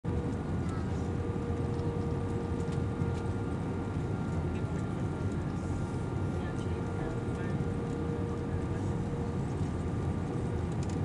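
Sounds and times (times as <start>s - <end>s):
airliner cabin engine rumble: 0.1s - 11.0s.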